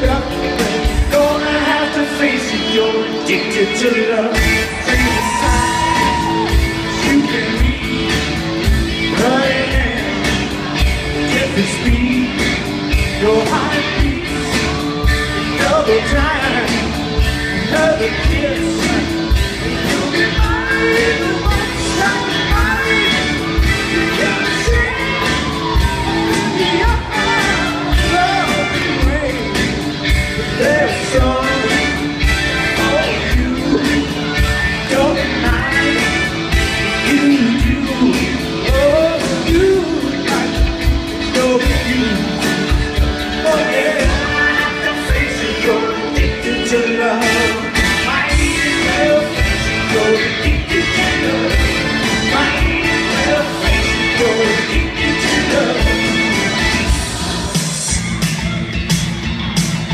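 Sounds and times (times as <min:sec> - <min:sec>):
man singing rock song: 0:00.0 - 0:59.9.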